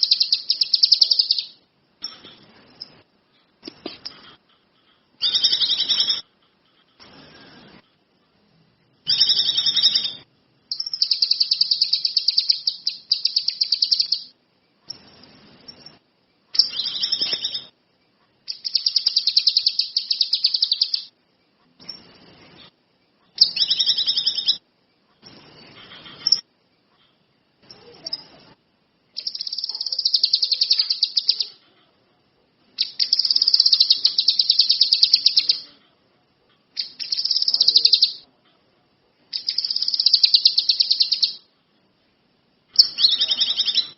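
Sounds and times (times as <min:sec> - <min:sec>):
songbird chirping trills: 0:00.0 - 0:43.9.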